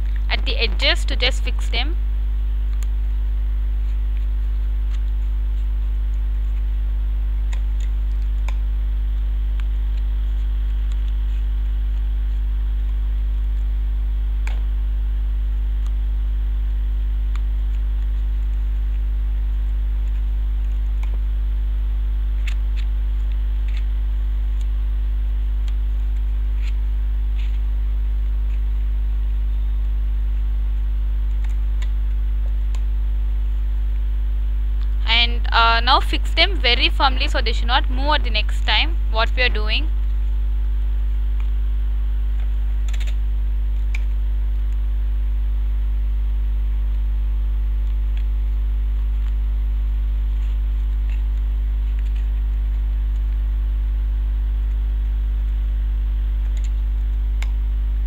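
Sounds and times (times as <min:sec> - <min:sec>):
loud electrical mains hum: 0:00.0 - 0:58.0.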